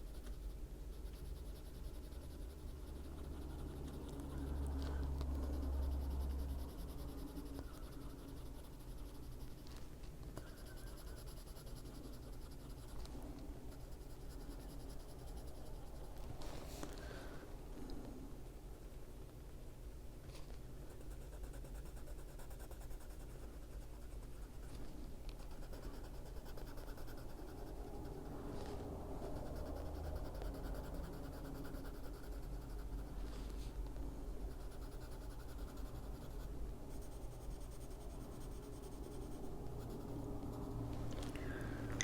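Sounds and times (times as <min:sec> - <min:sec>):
colored pencil scratching on paper: 0:00.0 - 0:16.8, 0:20.8 - 0:33.8, 0:34.4 - 0:41.1.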